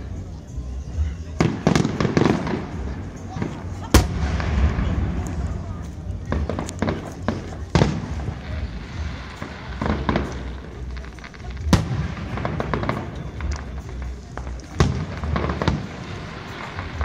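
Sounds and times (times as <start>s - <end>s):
firework shells booming: 1.4s - 17.0s
small firework pops: 1.4s - 17.0s.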